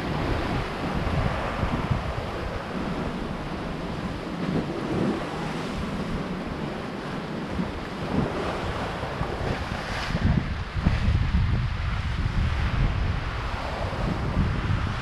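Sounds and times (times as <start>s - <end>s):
surf rushing on shore: 0.0s - 15.0s
wind buffeting microphone: 0.0s - 15.0s.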